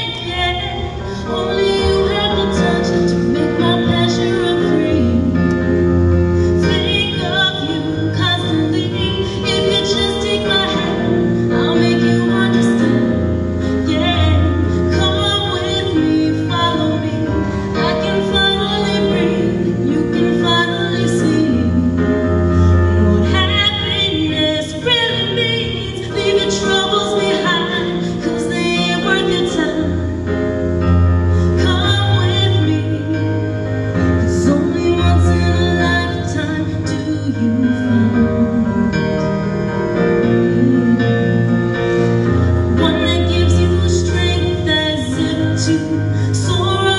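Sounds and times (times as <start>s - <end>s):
instrumental accompaniment: 0.0s - 46.9s
woman singing: 0.0s - 46.9s.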